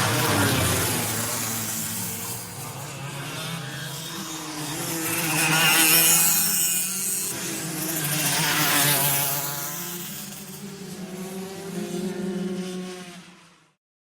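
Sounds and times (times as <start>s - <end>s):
go-kart engines buzzing past: 0.0s - 13.8s.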